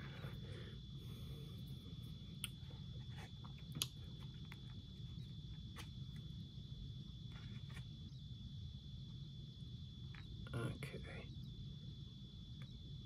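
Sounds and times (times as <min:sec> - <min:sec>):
faint high whine: 0:00.0 - 0:13.0
low room hum: 0:00.0 - 0:13.0.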